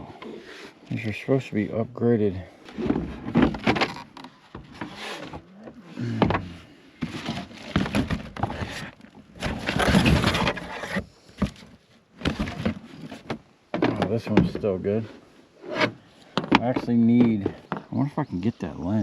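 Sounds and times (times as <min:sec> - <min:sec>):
rustling and scraping: 0:02.2 - 0:19.0.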